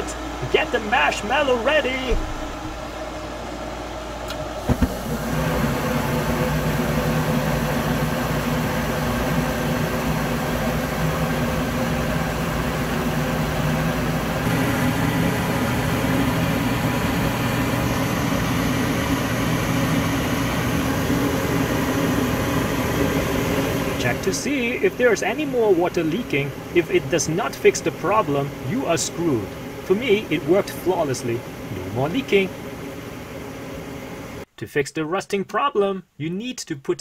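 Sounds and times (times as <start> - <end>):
furnace burners lighting: 0.0 - 34.5
furnace motor humming: 0.0 - 34.5.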